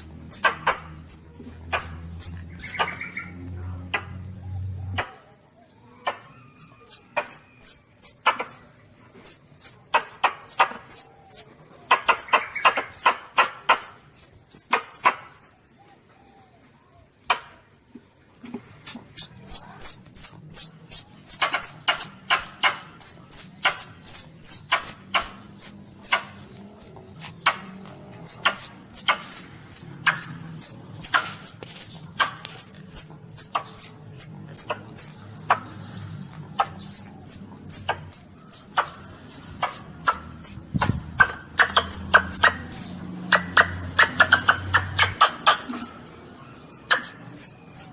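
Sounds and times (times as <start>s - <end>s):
baby civet squeaking: 0.0s - 3.4s, 6.3s - 15.5s, 18.8s - 35.7s, 36.5s - 45.8s, 46.6s - 47.9s.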